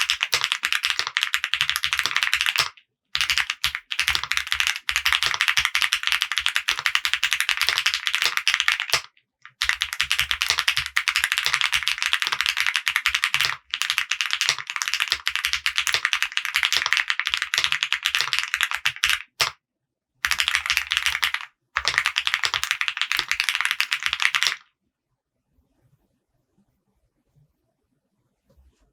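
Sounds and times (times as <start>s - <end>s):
fast typing on mechanical keyboard: 0.0s - 19.6s, 20.2s - 24.7s.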